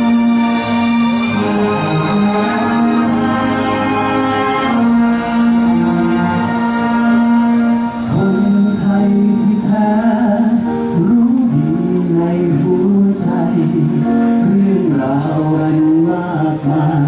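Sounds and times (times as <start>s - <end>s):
band playing: 0.0s - 17.0s.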